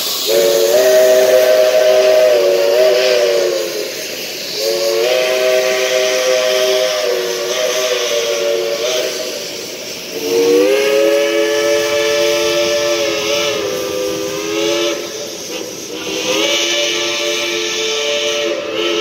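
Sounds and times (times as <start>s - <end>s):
steam hiss: 0.0s - 19.0s
steam locomotive chime whistle: 0.0s - 19.0s.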